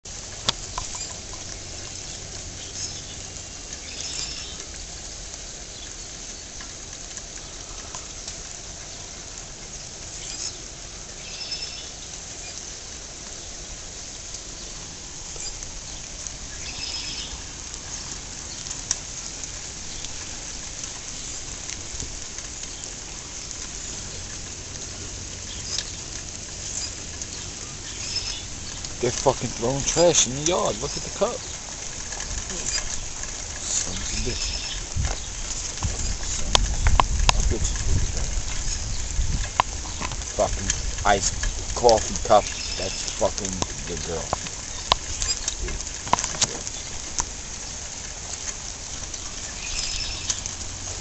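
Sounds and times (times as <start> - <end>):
sharp water drips: 0.0 - 51.0
steady rain patter: 0.0 - 51.0.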